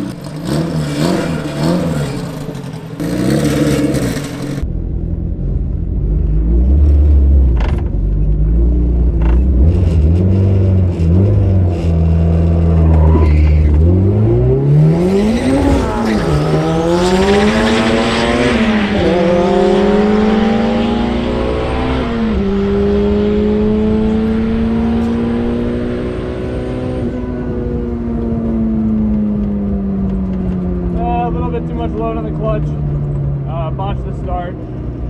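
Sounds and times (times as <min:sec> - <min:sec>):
car engine revving: 0:00.0 - 0:35.0
wind and road noise: 0:00.0 - 0:35.0.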